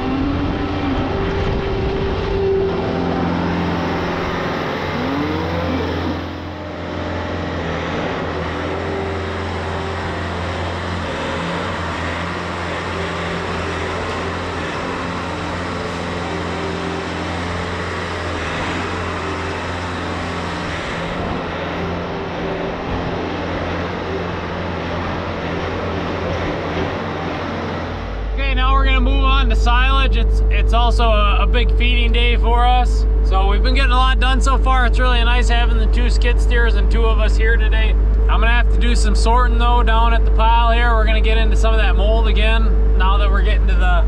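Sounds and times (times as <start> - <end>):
diesel engine running: 0.0 - 44.0
short rising whines: 0.0 - 44.0.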